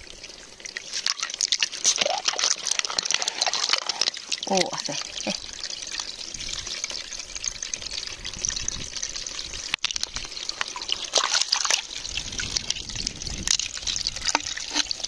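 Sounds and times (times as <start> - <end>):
water trickling among rocks: 0.0 - 15.0.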